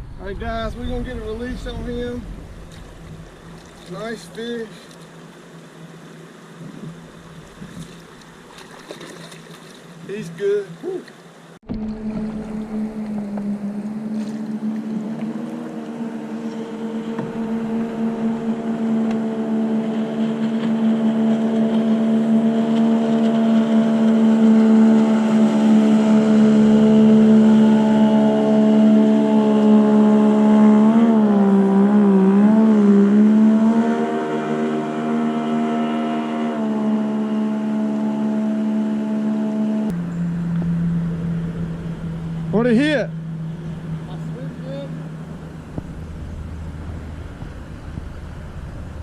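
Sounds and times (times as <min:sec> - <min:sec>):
motorboat engine running: 0:00.0 - 0:49.0.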